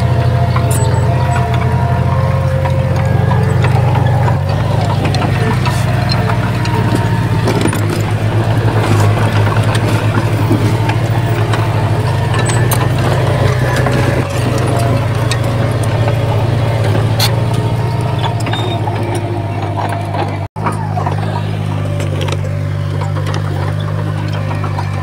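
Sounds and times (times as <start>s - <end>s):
diesel engine droning: 0.0s - 25.0s
sharp metallic clicks and clanks: 0.0s - 25.0s.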